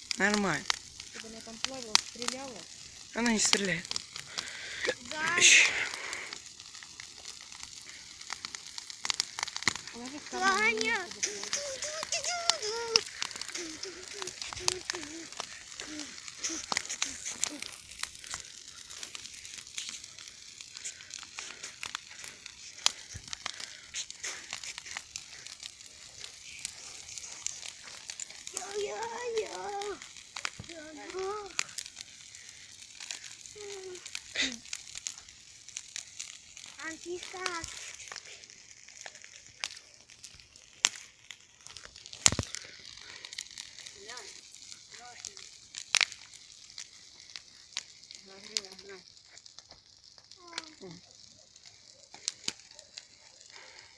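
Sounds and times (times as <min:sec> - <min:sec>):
campfire crackling: 0:00.0 - 0:53.9
fire hiss: 0:00.0 - 0:53.9
sharp pops of fire: 0:00.0 - 0:53.9.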